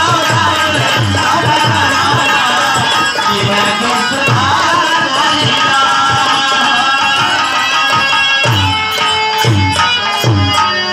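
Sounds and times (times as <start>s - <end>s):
man singing: 0.0s - 8.8s
held instrumental tones: 0.0s - 10.9s.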